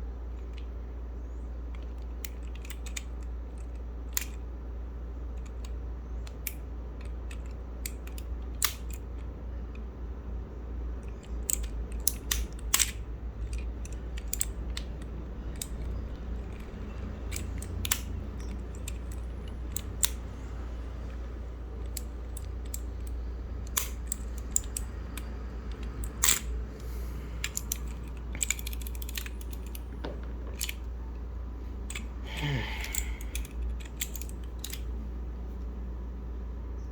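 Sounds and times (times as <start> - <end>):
steady low hum: 0.0 - 36.9
plastic keyboard parts clicking: 1.8 - 4.4, 5.4 - 9.8, 11.0 - 30.9, 31.8 - 34.9.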